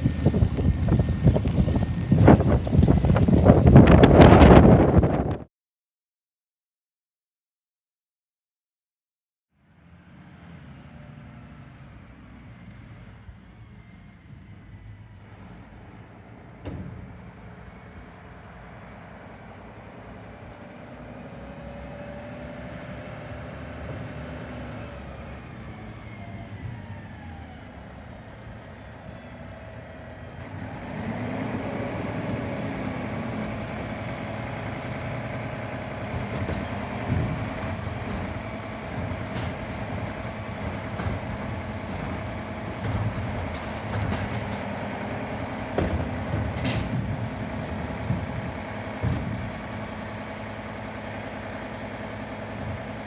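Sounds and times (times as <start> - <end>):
garbage truck running: 0.0 - 5.4, 13.6 - 53.0.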